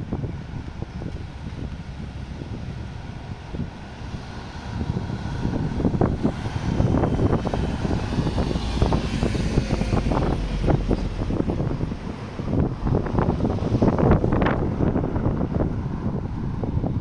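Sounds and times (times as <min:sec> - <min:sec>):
strong gusting wind on microphone: 0:00.0 - 0:17.0.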